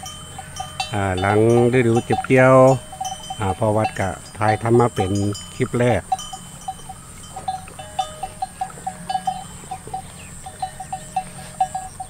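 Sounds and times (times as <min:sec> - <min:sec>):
animal bells clinking: 0:00.0 - 0:12.0
faint steady hum: 0:00.0 - 0:12.0.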